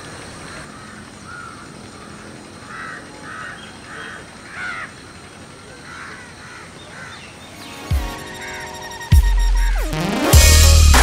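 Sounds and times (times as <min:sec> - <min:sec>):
birds calling: 0:00.0 - 0:10.3.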